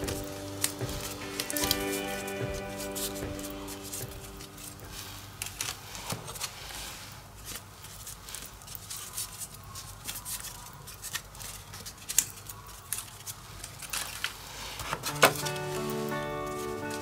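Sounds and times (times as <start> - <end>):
paper rustling and crackling: 0.0 - 17.0.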